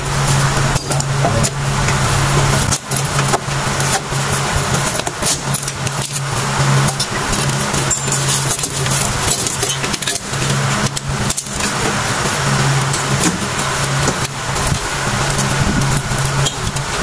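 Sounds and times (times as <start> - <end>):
loud background noise: 0.0 - 17.0
low hum: 0.0 - 17.0
metal clinking and scraping: 0.1 - 16.8.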